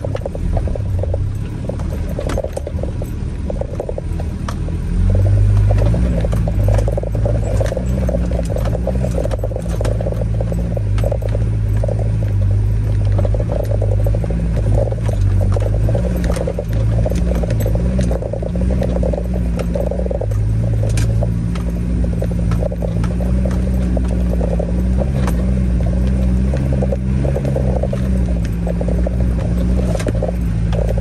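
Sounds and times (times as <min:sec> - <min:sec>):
stones knocking under tyres: 0:00.0 - 0:31.0
vehicle engine under load: 0:00.0 - 0:31.0.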